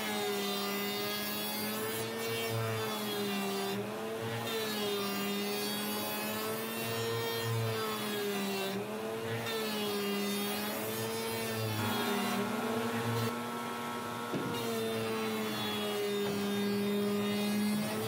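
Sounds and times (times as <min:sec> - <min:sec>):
router cutting wood panel: 0:00.0 - 0:18.0.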